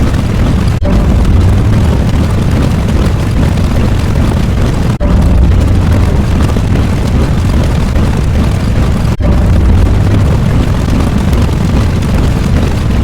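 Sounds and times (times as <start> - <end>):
deep rumbling roar: 0.0 - 13.0.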